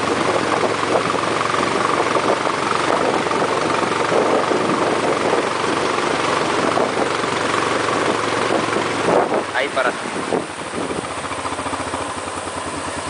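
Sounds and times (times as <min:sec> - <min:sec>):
truck engine: 0:00.0 - 0:13.0
water rushing and splashing: 0:00.0 - 0:13.0.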